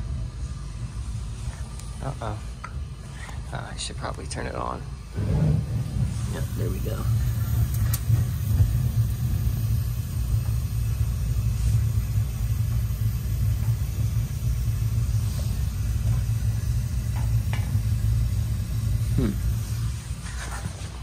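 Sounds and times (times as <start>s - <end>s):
gas flame rumbling: 0.0s - 21.0s.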